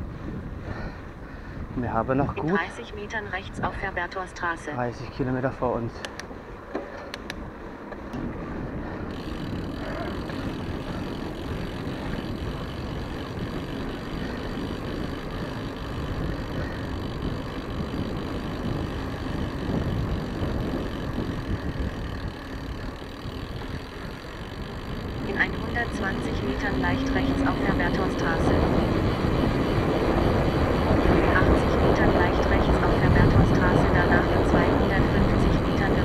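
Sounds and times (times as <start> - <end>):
bike rattling over cobblestones: 0.0 - 36.0.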